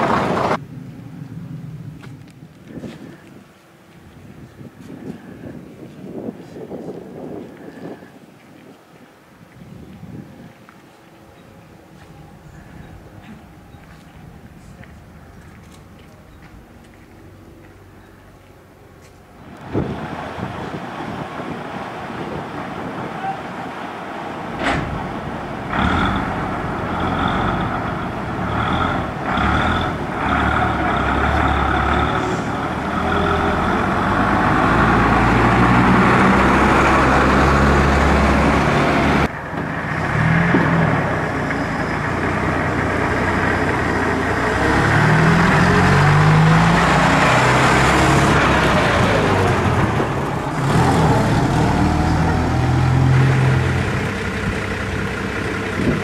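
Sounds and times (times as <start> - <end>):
bus diesel engines accelerating: 0.0 - 8.0, 9.8 - 56.0.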